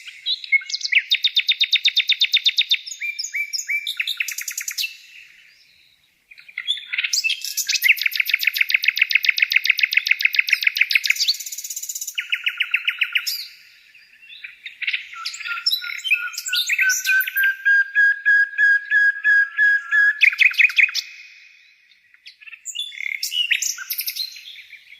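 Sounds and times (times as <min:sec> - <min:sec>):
songbird singing: 0:00.0 - 0:24.9.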